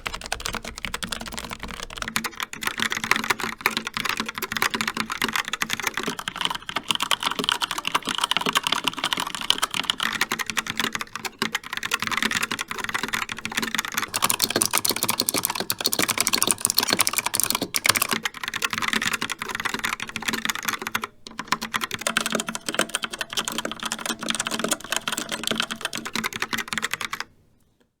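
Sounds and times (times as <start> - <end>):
fast typing on mechanical keyboard: 0.0 - 27.3.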